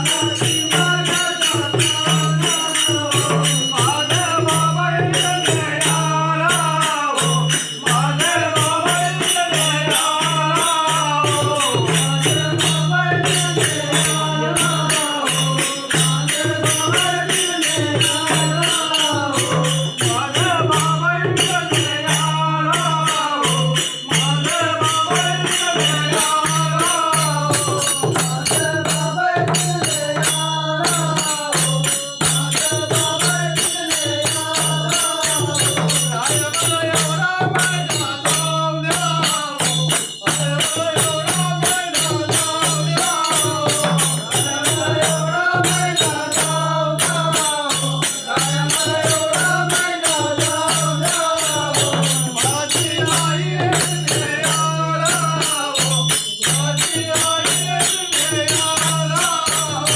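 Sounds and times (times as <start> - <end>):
hand cymbals jingling: 0.0 - 59.9
men singing together: 0.0 - 59.9.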